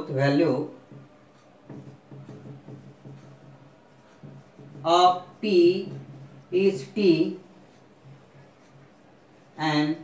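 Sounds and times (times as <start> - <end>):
marker scratching on whiteboard: 0.0 - 10.0.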